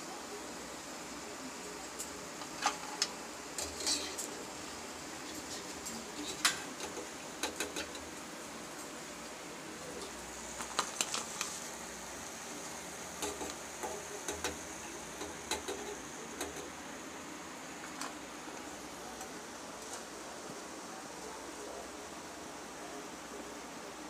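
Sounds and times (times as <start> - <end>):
hot oil frying: 0.0 - 20.8.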